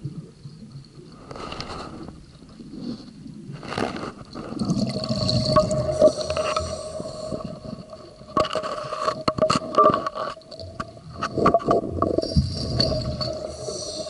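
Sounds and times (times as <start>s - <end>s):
faint steady hum: 0.0s - 14.0s
underwater bubbling: 0.0s - 14.0s.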